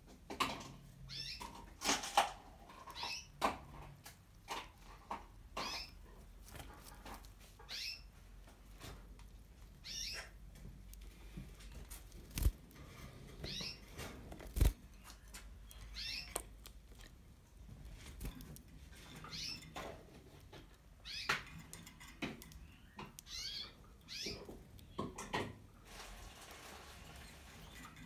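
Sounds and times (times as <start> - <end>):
canary chirping: 1.0 - 28.0.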